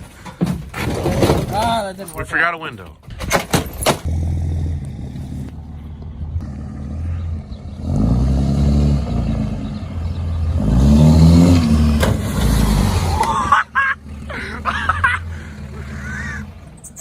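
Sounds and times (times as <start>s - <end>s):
truck engine rumbling and revving: 0.0s - 17.0s.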